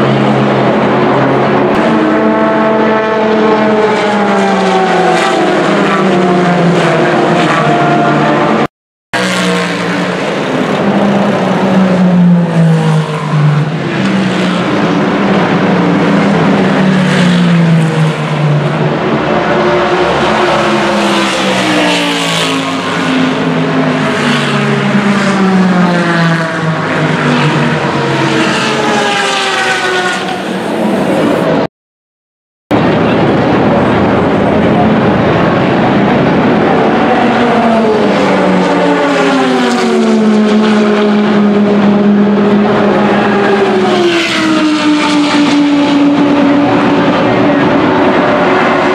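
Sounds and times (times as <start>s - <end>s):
race cars passing at speed: 0.0s - 31.7s, 32.8s - 48.9s.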